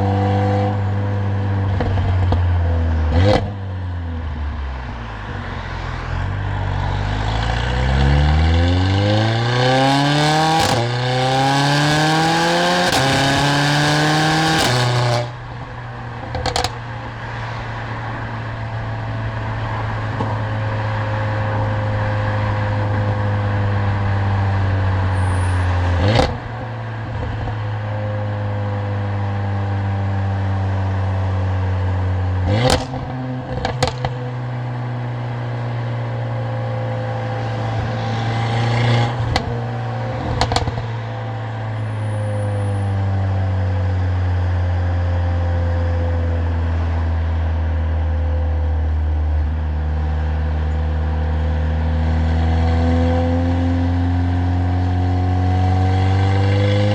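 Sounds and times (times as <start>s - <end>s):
car engine and loud exhaust: 0.0s - 56.9s.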